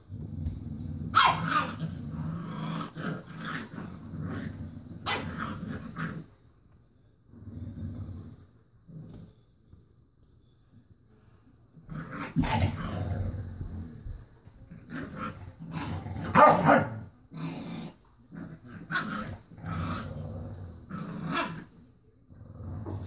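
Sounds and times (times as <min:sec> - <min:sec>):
dog growling and grumbling: 0:00.0 - 0:06.4, 0:07.3 - 0:09.3, 0:11.8 - 0:23.0.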